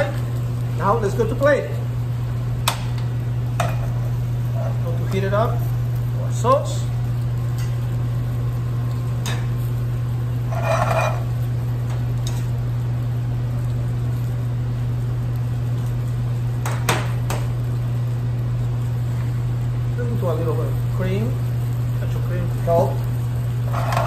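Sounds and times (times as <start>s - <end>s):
low kitchen hum: 0.0s - 24.0s.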